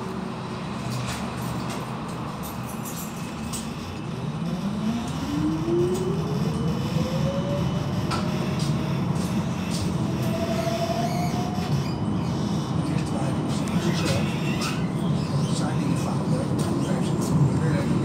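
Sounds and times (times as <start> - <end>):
tram motor whine: 0.0 - 18.0
wheels rumbling on rails: 0.0 - 18.0.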